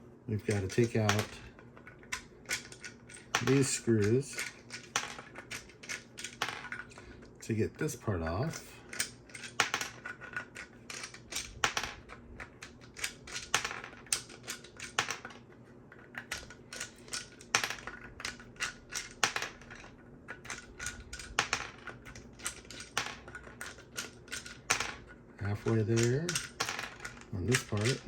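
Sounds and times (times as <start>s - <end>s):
plastic screws clicking and clattering: 0.5s - 7.0s, 8.9s - 15.4s, 16.0s - 28.0s.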